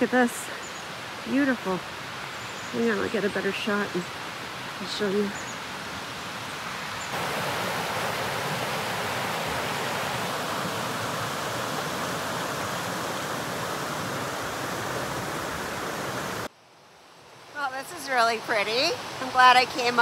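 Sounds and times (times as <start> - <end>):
water running over rocks: 0.0 - 16.5.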